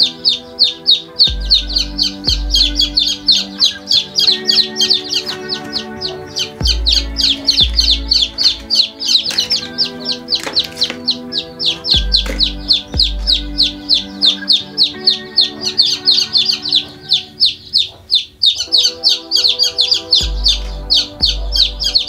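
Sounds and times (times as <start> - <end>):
background music with low bass: 0.0 - 17.6, 18.7 - 22.0
chicks peeping: 0.0 - 22.0.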